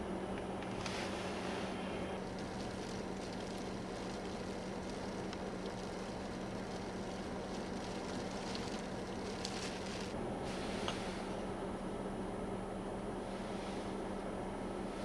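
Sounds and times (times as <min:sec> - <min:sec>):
low constant hum: 0:00.0 - 0:15.0.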